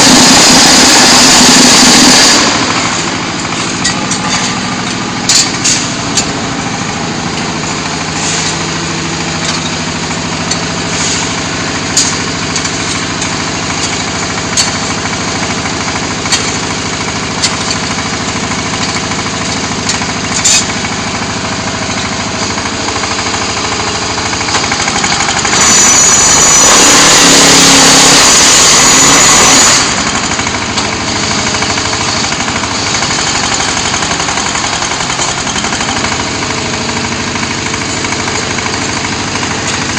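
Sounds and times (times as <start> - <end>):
block machine running: 0.0 - 39.9
loud harsh noise: 0.0 - 39.9.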